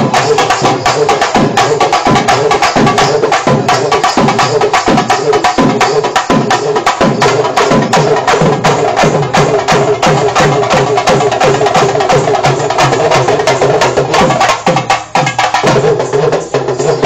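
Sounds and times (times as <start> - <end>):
fast loud drumming: 0.0 - 17.0.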